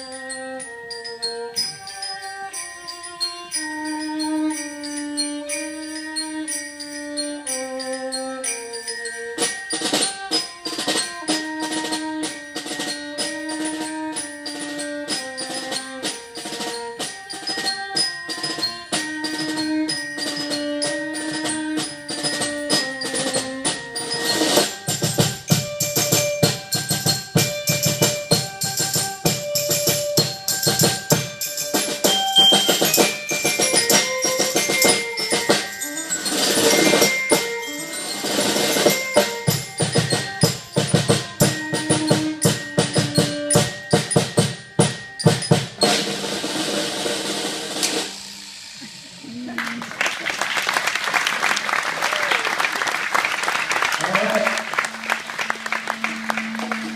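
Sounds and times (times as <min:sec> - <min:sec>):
christmas music melody: 0:00.0 - 0:48.6, 0:53.7 - 0:56.9
fast steady drumming: 0:00.0 - 0:52.3.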